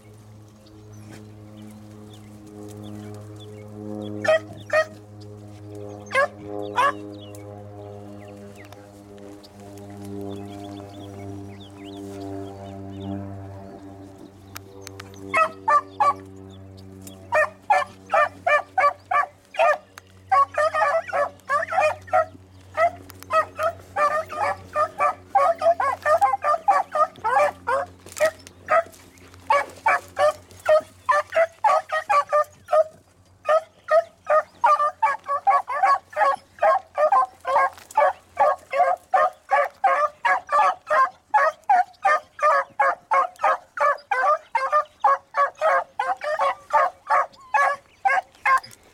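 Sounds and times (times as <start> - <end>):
low steady hum: 0.0 - 48.9
beagles baying: 0.9 - 48.9.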